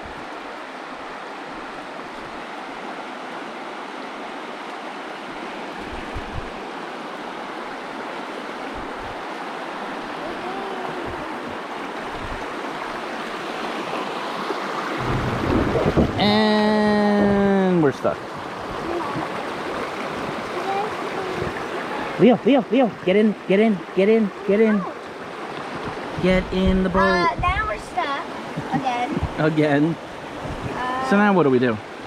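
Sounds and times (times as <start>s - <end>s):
rushing water of a rapid: 0.0s - 32.0s.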